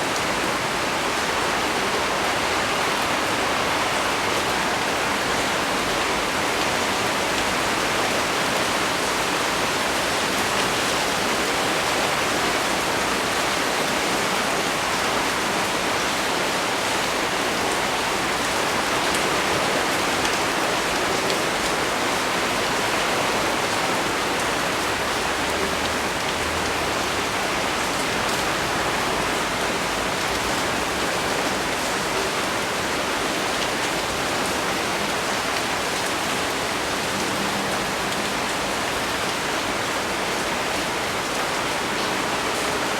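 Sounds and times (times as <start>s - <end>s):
heavy rain on leaves: 0.0s - 42.9s.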